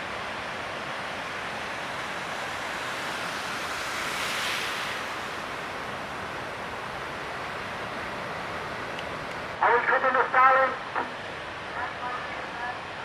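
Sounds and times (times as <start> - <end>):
ocean waves breaking on reef: 0.0 - 13.0.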